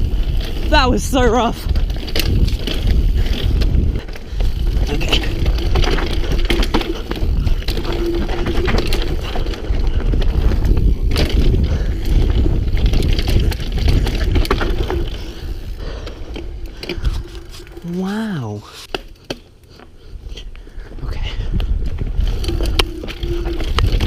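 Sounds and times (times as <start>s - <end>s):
wind rumble on microphone: 0.0s - 17.8s, 20.1s - 24.0s
bike rattling over bumps: 0.0s - 18.1s, 21.6s - 24.0s.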